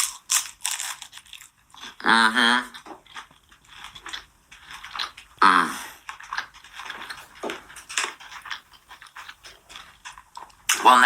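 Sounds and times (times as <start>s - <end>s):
chewing and crunching food: 0.0s - 11.0s.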